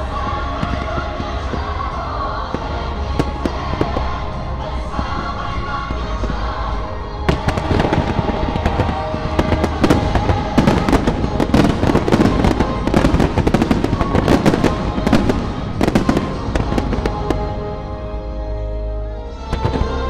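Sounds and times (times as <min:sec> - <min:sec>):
fireworks bangs and crackling: 0:00.0 - 0:18.0, 0:19.5 - 0:20.0
music soundtrack: 0:00.0 - 0:20.0.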